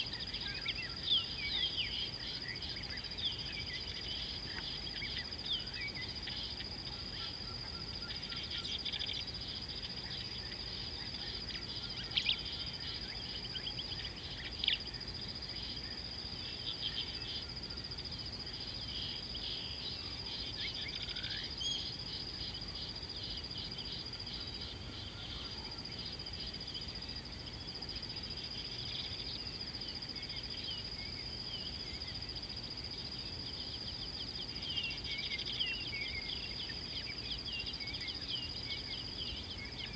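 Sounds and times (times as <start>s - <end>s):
high-pitched insect trill: 0.0s - 39.9s
small birds chirping: 0.0s - 39.9s.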